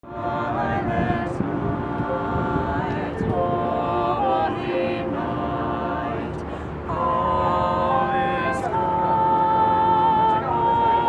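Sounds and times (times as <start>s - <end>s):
low background noise: 0.0s - 11.0s
voices singing long notes: 0.0s - 11.0s.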